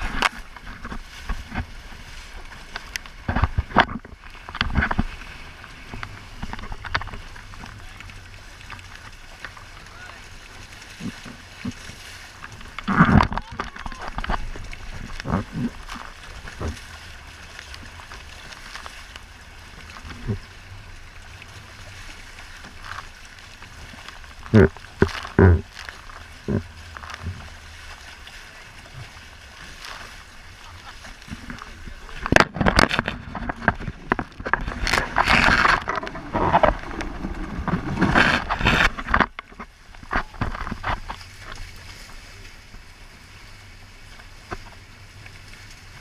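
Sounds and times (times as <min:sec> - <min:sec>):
water rushing around hull: 0:00.0 - 0:46.0.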